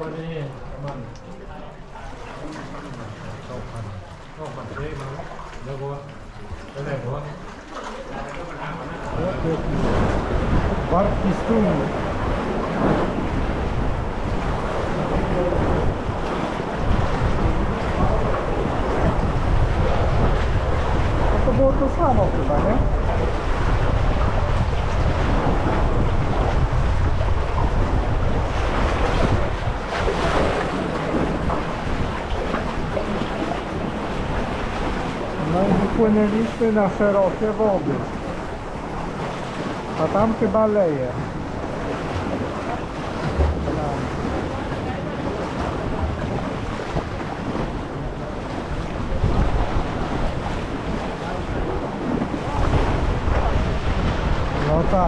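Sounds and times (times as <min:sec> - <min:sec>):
water rushing past boat: 0:00.0 - 0:55.0
wind buffeting microphone: 0:08.8 - 0:55.0.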